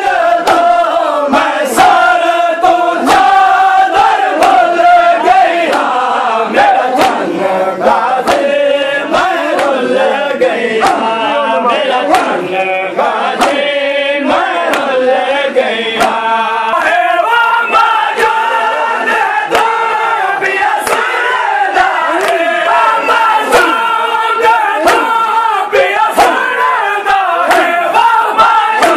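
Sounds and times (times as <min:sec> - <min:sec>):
hands slapping chests: 0:00.0 - 0:15.0, 0:15.9 - 0:18.4, 0:19.0 - 0:28.9
crowd of men chanting: 0:00.0 - 0:28.9.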